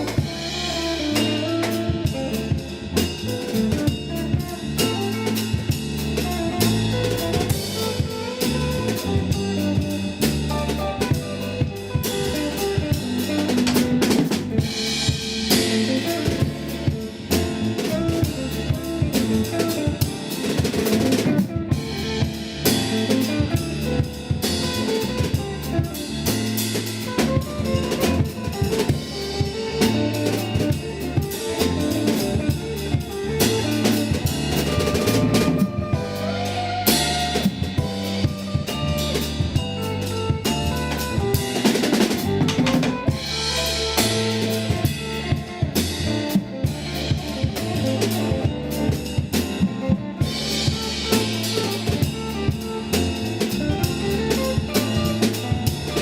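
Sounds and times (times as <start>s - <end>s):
bass line: 0.0s - 56.0s
drum kit groove with rimshots: 0.0s - 56.0s.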